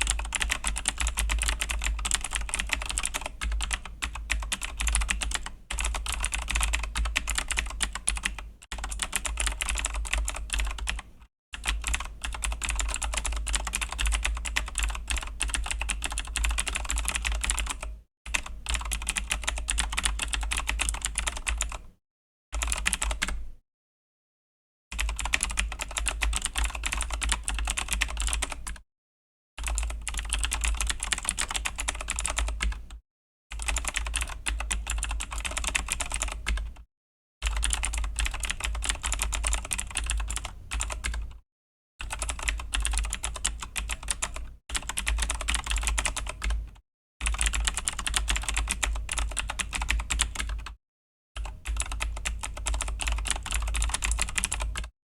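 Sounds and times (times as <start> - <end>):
mechanical keyboard typing: 0.0 - 21.9, 22.6 - 23.4, 25.0 - 28.8, 29.6 - 32.9, 33.6 - 36.8, 37.4 - 41.4, 42.0 - 50.8, 51.4 - 54.9.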